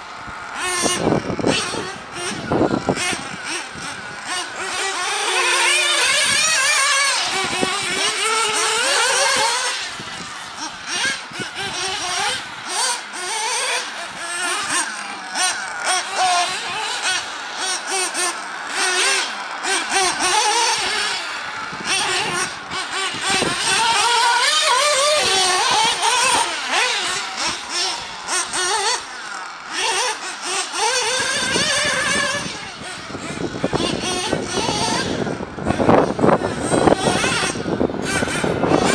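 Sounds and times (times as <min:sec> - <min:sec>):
rc car engine revving: 0:00.0 - 0:38.9.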